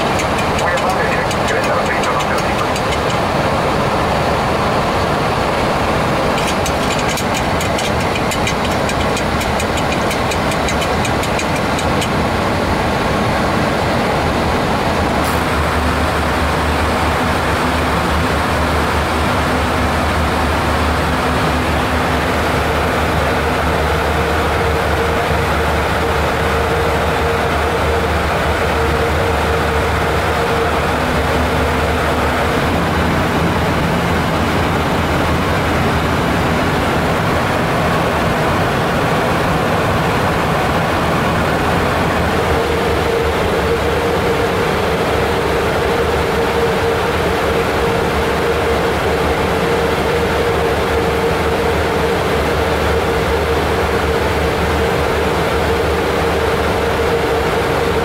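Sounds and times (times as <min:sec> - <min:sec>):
rushing aircraft cabin noise: 0:00.0 - 0:58.0.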